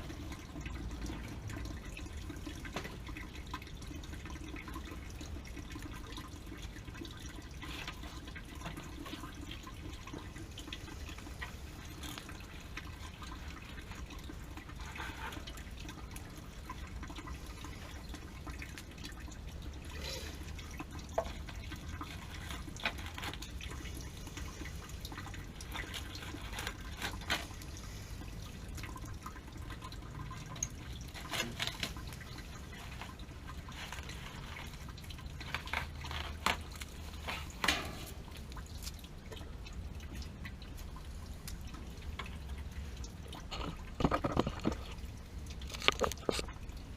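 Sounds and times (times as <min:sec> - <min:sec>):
water dripping and trickling: 0:00.0 - 0:46.9.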